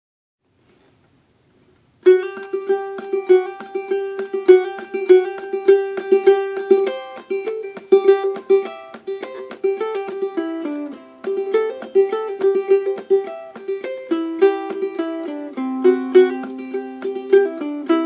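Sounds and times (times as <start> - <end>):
ukulele played clawhammer style: 2.0 - 18.0.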